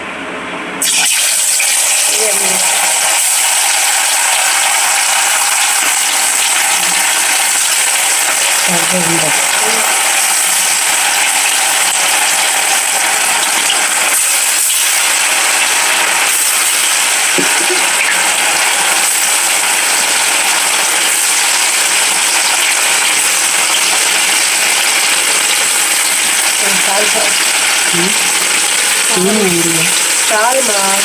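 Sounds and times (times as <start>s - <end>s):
fish deep-frying in hot oil: 0.8s - 31.0s.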